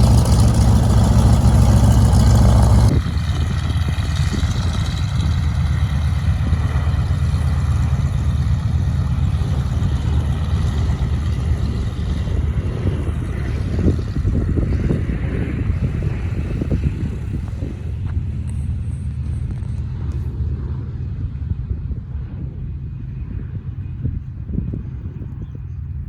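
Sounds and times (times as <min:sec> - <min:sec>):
aircraft radial engines running: 0:00.0 - 0:26.0.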